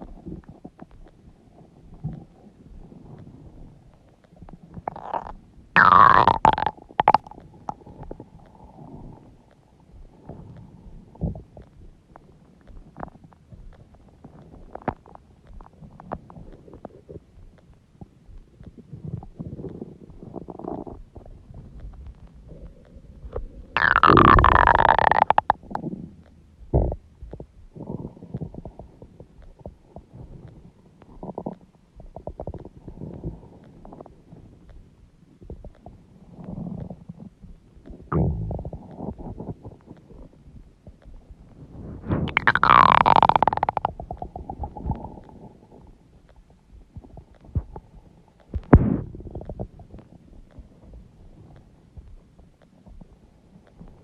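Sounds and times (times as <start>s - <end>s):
stomach gurgling and rumbling: 0.0s - 54.0s.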